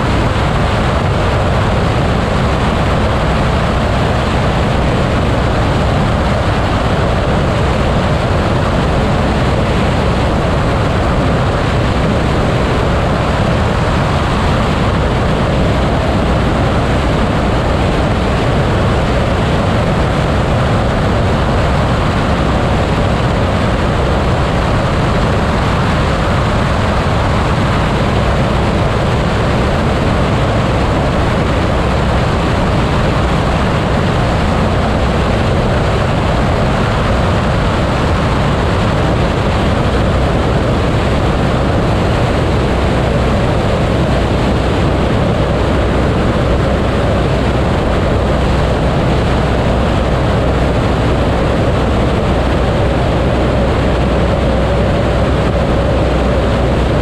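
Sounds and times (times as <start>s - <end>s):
low engine drone: 0.0s - 57.0s
rush of air: 0.0s - 57.0s.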